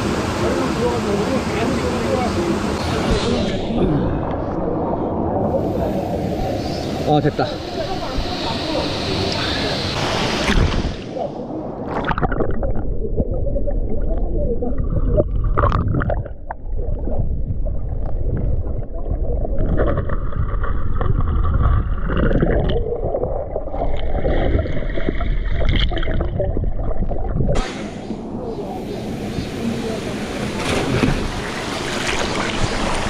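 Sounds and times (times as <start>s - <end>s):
muffled underwater gurgling rumble: 1.8s - 33.0s.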